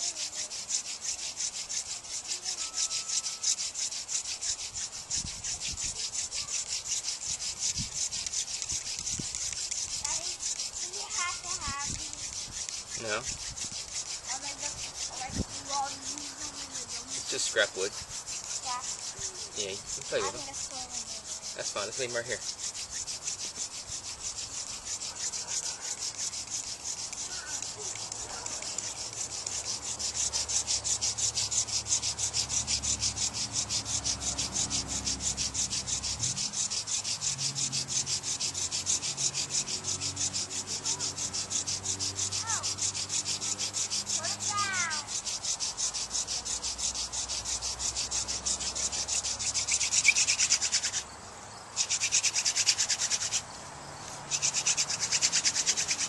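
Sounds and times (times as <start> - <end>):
wooden spindle grinding rasp: 0.0 - 56.0.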